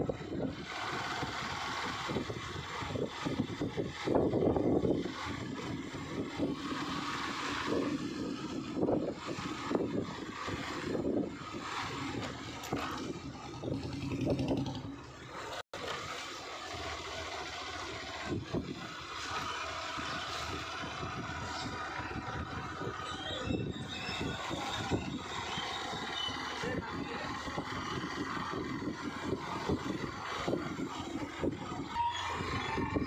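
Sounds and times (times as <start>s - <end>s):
road and wind noise: 0.0s - 33.0s
vehicle engine running: 0.0s - 33.0s.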